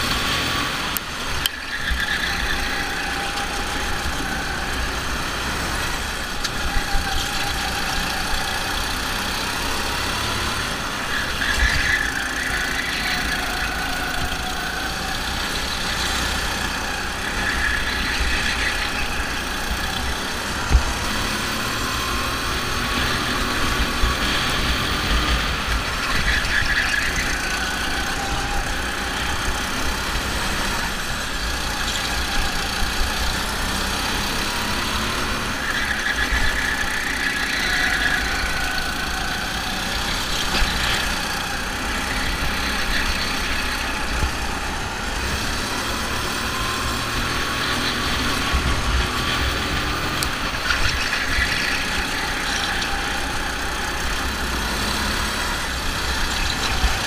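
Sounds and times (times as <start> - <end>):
go-kart engines racing: 0.0 - 57.0.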